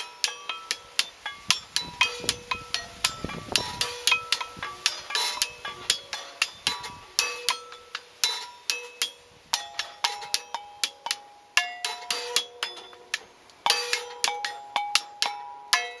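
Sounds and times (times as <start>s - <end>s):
sticks striking metal brake rotors: 0.0s - 16.0s.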